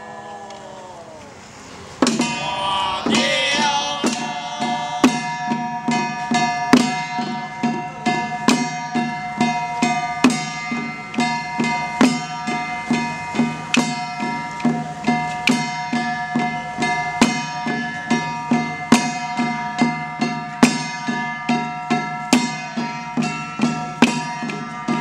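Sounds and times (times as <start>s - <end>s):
hand drums beating: 2.0s - 25.0s
melody of long held notes: 2.2s - 25.0s.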